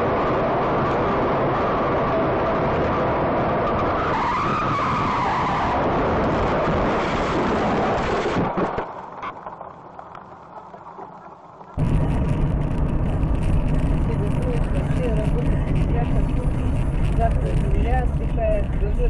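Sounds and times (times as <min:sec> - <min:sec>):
car road noise: 0:00.0 - 0:19.0.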